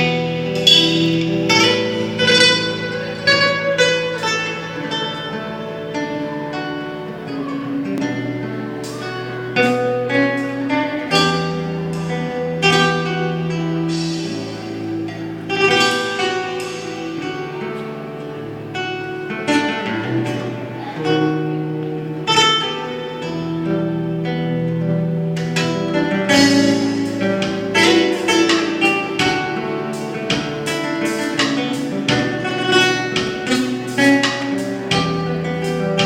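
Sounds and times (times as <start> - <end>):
guitar plucking and strumming: 0.0 - 36.0
low held notes: 0.0 - 36.0.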